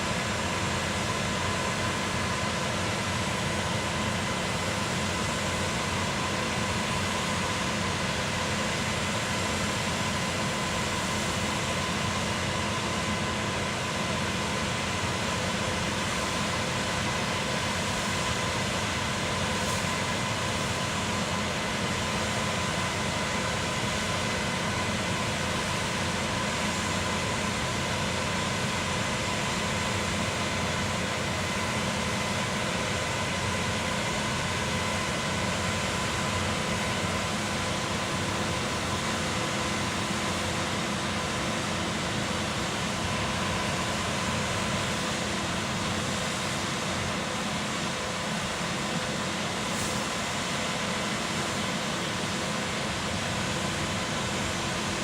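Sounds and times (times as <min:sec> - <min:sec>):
concrete pump engine running: 0:00.0 - 0:55.0.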